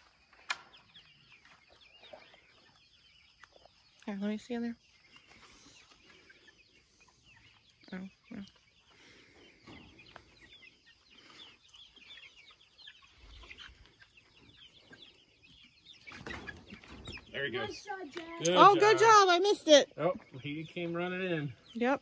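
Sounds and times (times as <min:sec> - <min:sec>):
chicks peeping and clucking: 0:00.0 - 0:22.0.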